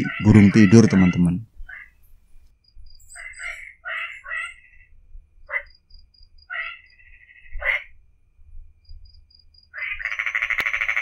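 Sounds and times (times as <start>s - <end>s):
frogs croaking: 0.0s - 8.1s, 8.8s - 11.0s.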